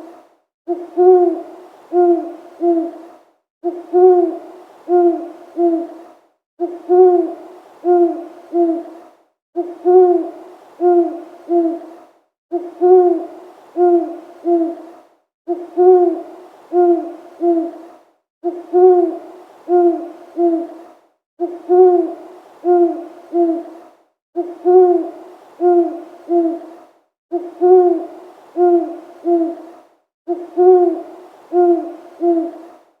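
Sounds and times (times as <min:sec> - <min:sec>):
owl hooting: 0:00.7 - 0:06.0, 0:06.6 - 0:09.0, 0:09.6 - 0:14.9, 0:15.5 - 0:20.8, 0:21.4 - 0:23.8, 0:24.4 - 0:32.7.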